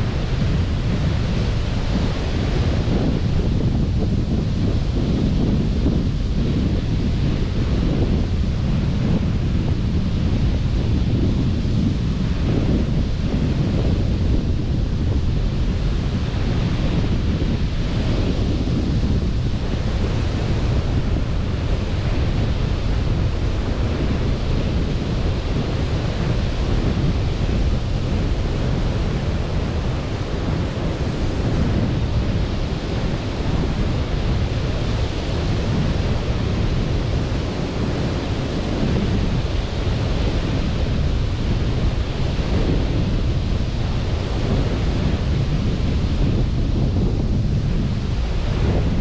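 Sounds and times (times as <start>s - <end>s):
sea surf washing ashore: 0.0s - 49.0s
wind rumbling on microphone: 0.0s - 49.0s.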